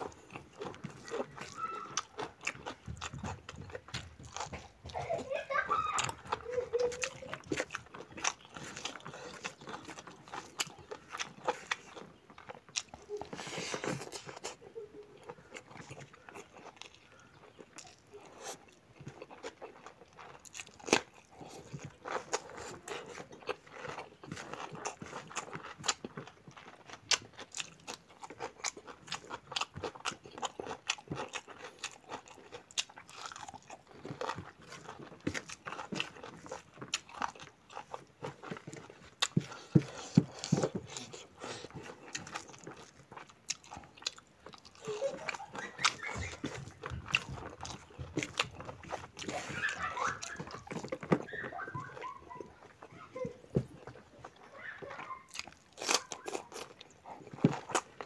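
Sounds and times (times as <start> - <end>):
crunchy bites and chewing: 0.0 - 5.0, 6.0 - 14.6, 15.2 - 52.0, 53.4 - 58.0.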